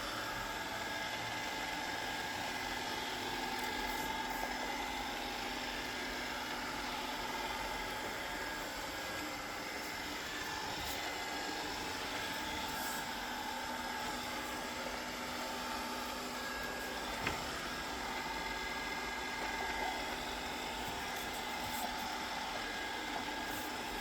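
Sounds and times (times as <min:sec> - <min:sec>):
robot vacuum whirring: 0:00.0 - 0:24.0.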